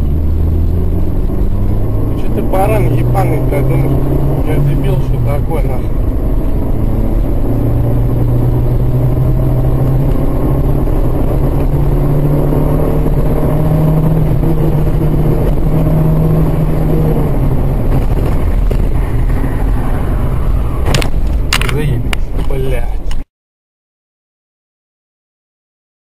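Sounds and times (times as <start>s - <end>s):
car engine hum: 0.0s - 23.2s
road rumble: 0.0s - 23.3s.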